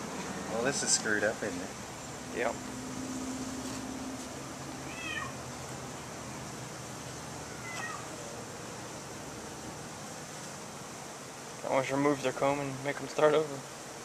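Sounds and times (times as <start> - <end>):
bees humming: 0.0 - 14.0.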